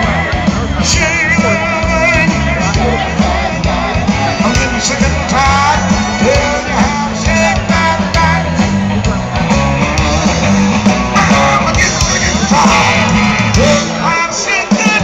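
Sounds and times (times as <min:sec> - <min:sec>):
person singing: 0:00.0 - 0:09.1, 0:10.8 - 0:15.0
guitar: 0:00.0 - 0:15.0
live rhythm and blues band: 0:00.0 - 0:15.0
steady bass line: 0:00.0 - 0:15.0.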